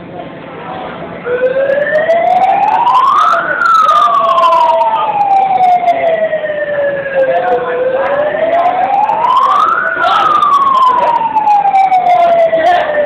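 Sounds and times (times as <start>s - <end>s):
siren wailing: 1.2s - 13.0s.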